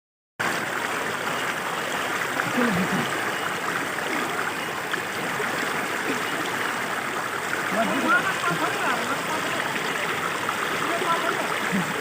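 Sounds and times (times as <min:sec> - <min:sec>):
fast-flowing water rushing: 0:00.4 - 0:12.0.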